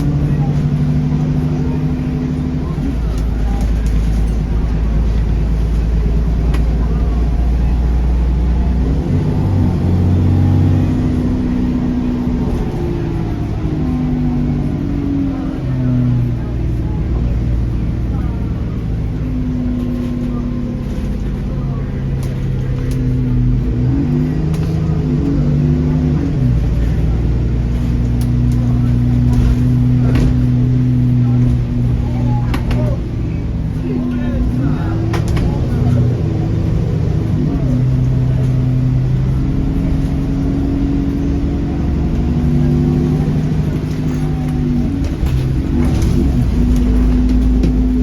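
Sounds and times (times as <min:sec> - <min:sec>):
bus engine accelerating: 0:00.0 - 0:48.0.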